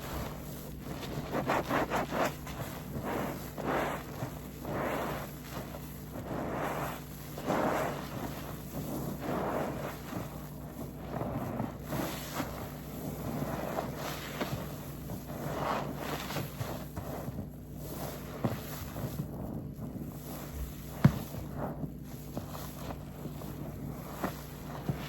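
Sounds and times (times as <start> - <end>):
sponge squelching when squeezed: 0.0 - 25.0.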